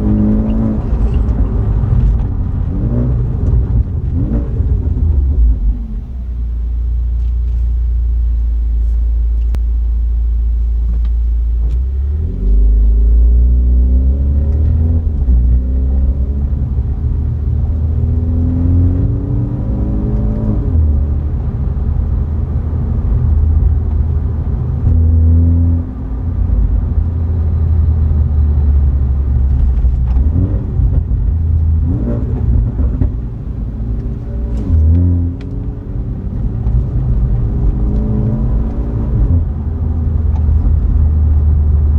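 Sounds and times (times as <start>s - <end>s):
car engine and exhaust accelerating: 0.0s - 41.9s.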